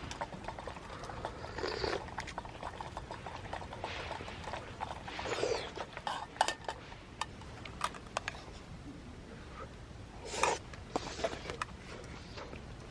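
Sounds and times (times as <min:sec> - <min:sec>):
soft rustles or slurps: 0:00.0 - 0:12.9.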